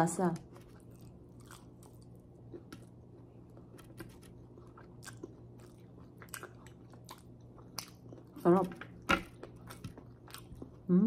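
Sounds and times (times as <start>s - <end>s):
faint low hum: 0.0s - 11.0s
person chewing food: 0.4s - 10.9s.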